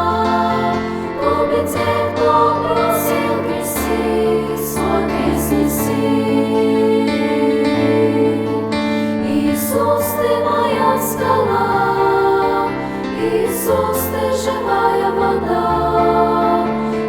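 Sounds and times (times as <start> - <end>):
voices singing a melody: 0.0 - 17.0.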